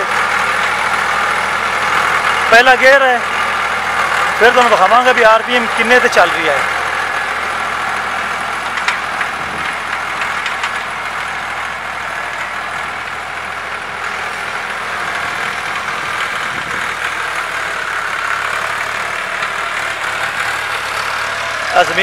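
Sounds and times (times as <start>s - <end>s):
diesel tractor engine under load: 0.0s - 22.0s.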